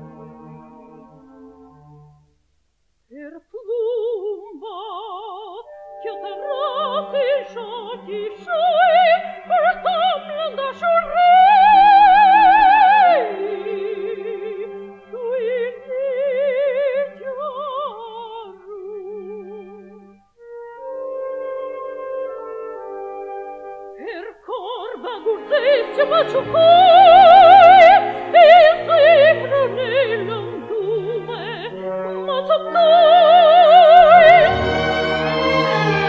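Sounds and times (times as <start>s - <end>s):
soft orchestral accompaniment: 0.0s - 2.6s, 3.7s - 36.0s
soprano singing opera: 3.1s - 20.0s, 24.0s - 36.0s.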